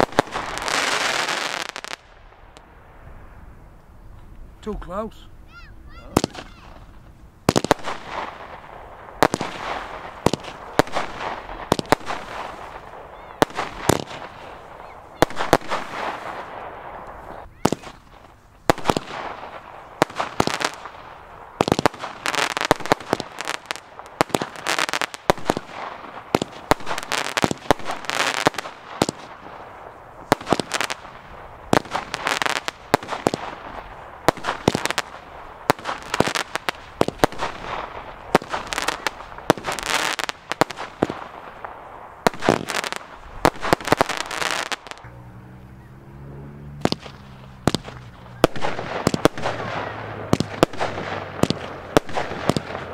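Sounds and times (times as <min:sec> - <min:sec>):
fireworks bangs: 0:00.0 - 0:03.4, 0:04.2 - 0:52.9
fireworks crackling: 0:00.0 - 0:52.9.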